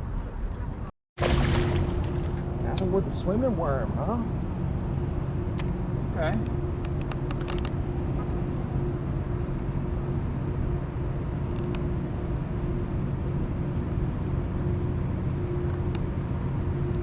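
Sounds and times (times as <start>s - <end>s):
low motor drone: 0.0s - 17.0s.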